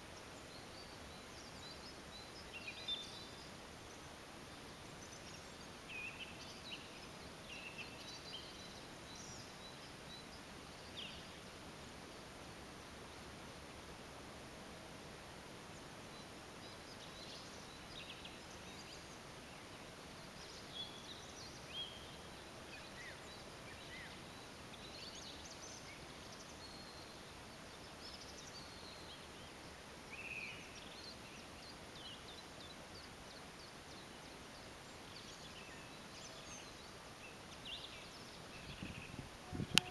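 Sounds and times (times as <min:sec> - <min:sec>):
outdoor background hiss: 0:00.0 - 0:39.9
songbirds chirping: 0:00.0 - 0:39.9.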